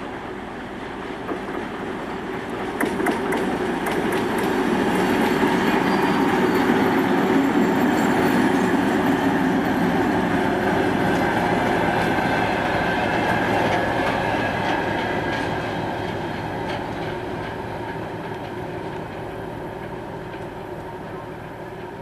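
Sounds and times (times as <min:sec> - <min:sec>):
train wheels rumbling and clicking: 0:00.0 - 0:22.0.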